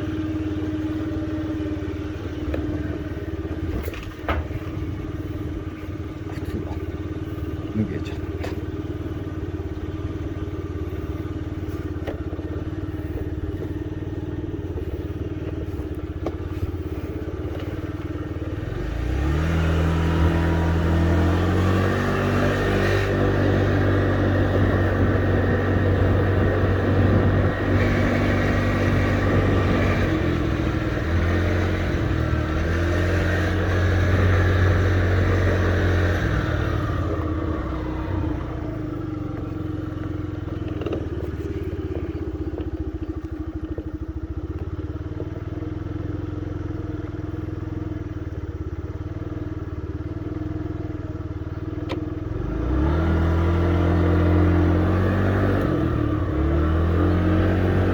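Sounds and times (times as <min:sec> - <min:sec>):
scooter engine running: 0:00.0 - 0:57.9.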